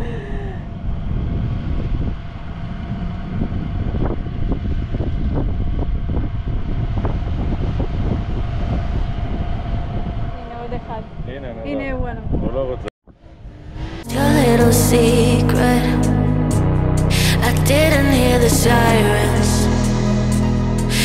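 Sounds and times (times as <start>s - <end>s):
engine low rumble: 0.0s - 11.6s, 12.5s - 21.0s.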